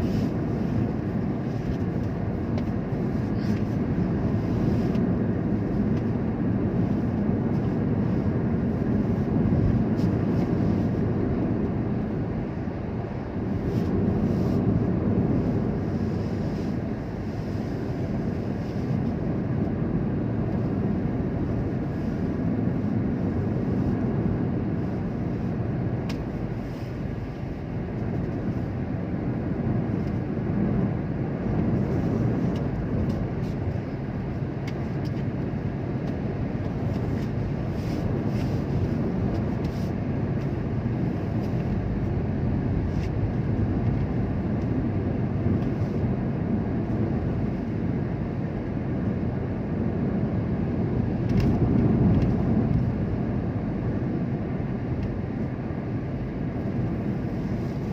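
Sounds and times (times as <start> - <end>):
vehicle engine and road noise: 0.0 - 57.9.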